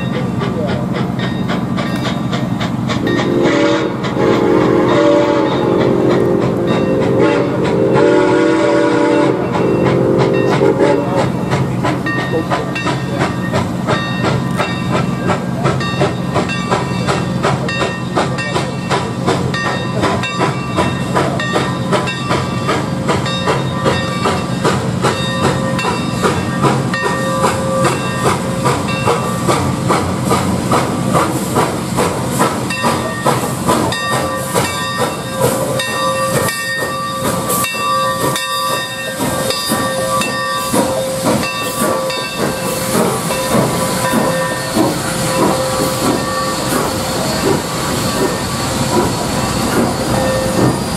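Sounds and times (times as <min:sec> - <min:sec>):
train chime chord: 0:00.0 - 0:00.4, 0:03.0 - 0:29.4, 0:32.7 - 0:50.9
steam locomotive chuffing: 0:00.0 - 0:50.9
hiss of steam: 0:00.3 - 0:50.9.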